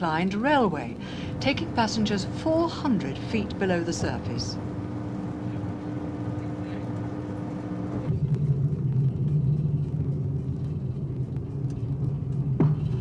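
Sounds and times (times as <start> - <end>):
rail car rumbling: 0.0 - 13.0
steady hum: 0.0 - 13.0.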